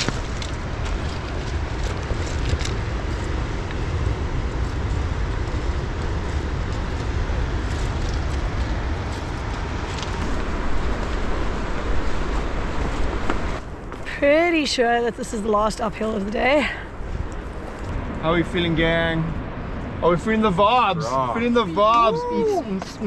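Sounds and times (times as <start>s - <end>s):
wind rumbling on microphone: 0.0s - 22.0s
outdoor noise: 0.0s - 23.0s.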